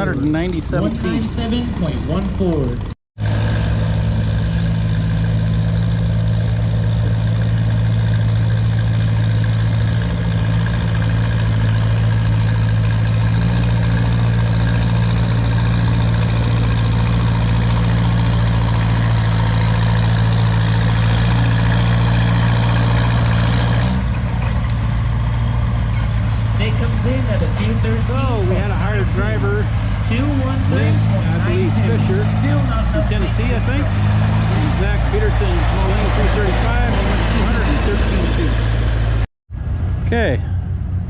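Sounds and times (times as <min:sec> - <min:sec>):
tractor engine under load: 0:00.0 - 0:41.0.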